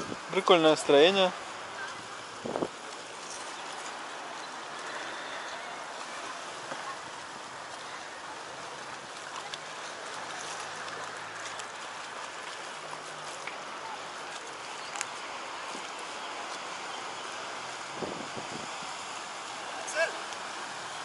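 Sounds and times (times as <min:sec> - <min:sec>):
waves lapping against rocks: 0:00.0 - 0:21.0.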